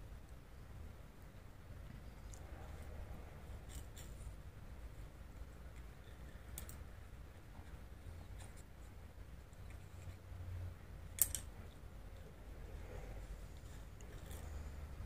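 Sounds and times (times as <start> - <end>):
cat gnawing wooden stick: 1.2 - 15.0.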